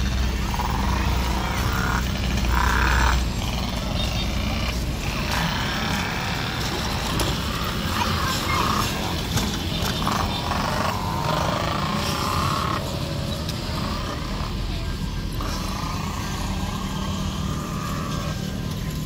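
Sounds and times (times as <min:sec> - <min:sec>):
road traffic rumble: 0:00.0 - 0:19.0
scattered voices: 0:00.0 - 0:19.0.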